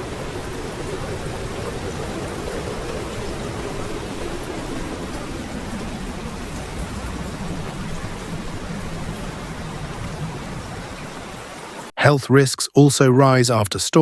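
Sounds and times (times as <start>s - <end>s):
heavy rain: 0.0s - 11.9s.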